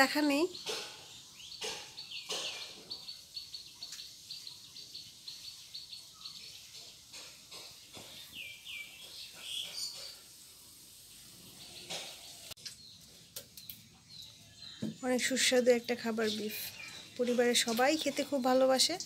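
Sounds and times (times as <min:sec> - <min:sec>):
birds calling: 0:00.1 - 0:10.4, 0:11.2 - 0:19.0.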